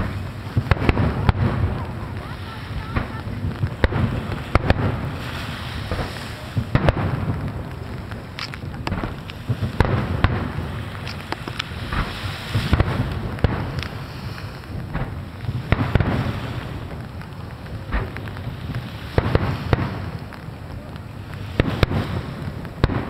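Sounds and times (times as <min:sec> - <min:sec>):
continuous rumble and crackle: 0:00.0 - 0:23.0
fireworks bursting: 0:00.0 - 0:23.0.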